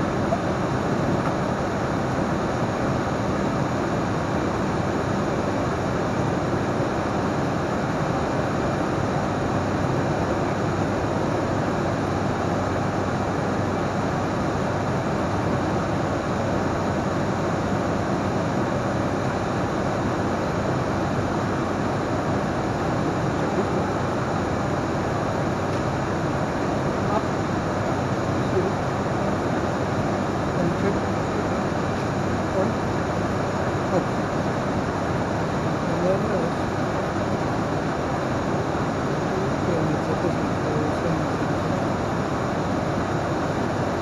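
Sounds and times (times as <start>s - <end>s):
turboprop engines droning: 0.0s - 44.0s.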